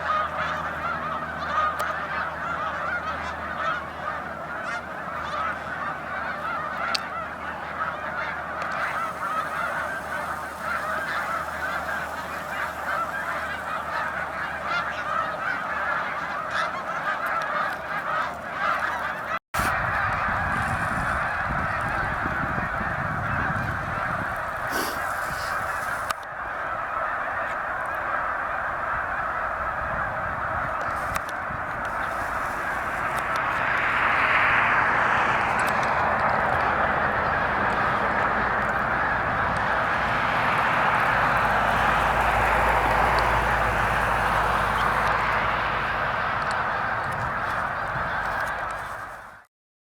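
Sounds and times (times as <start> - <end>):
geese honking in chorus: 0.0 - 49.5.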